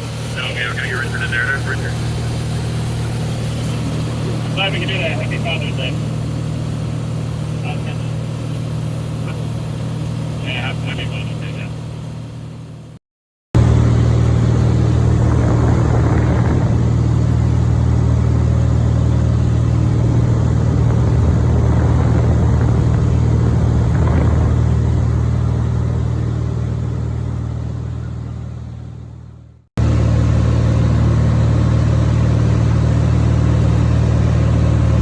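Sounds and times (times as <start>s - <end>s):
small airplane droning: 0.0s - 13.0s, 13.6s - 35.0s.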